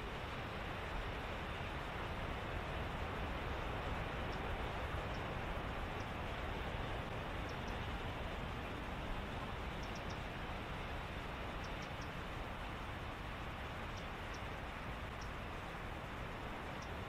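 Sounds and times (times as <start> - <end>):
steady background hiss and rumble: 0.0 - 17.0.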